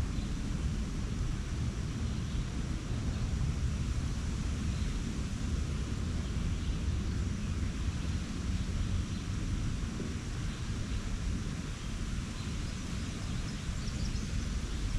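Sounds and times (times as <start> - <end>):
low outdoor rumble: 0.0 - 14.9.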